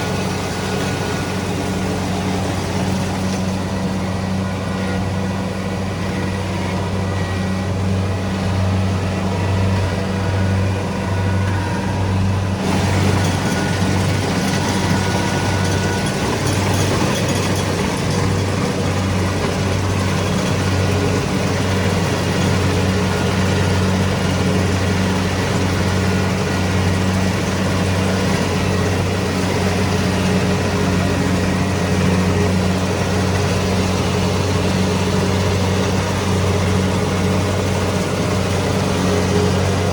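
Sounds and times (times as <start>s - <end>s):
combine harvester engine hum: 0.0s - 39.9s
hissing machine noise: 0.0s - 39.9s.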